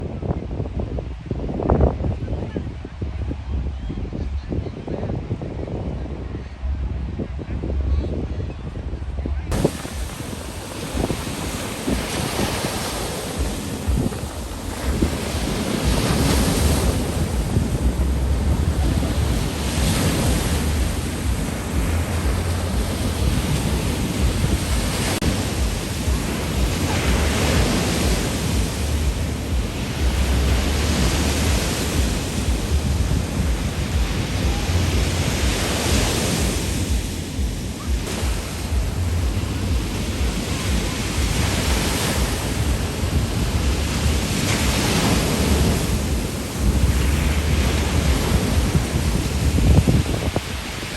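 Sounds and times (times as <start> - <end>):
wind rumbling on microphone: 0.0 - 50.9
surf breaking on beach: 9.5 - 50.9.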